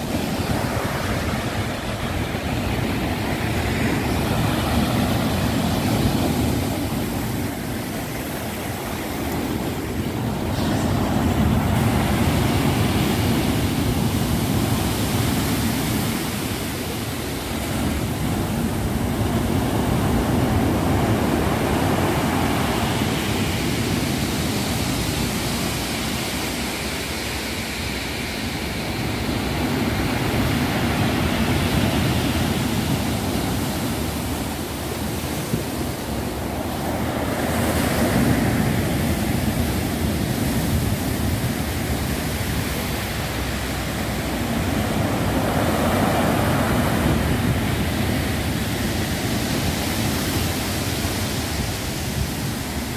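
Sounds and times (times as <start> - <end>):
heavy waves breaking on shore: 0.0 - 52.9.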